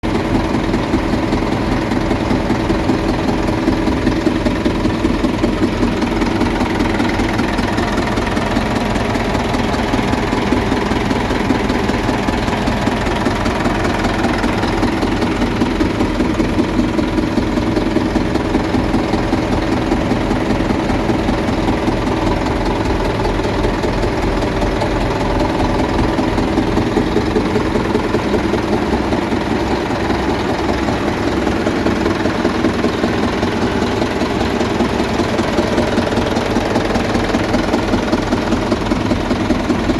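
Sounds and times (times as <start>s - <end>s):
engine idling with rapid knock: 0.0s - 39.9s.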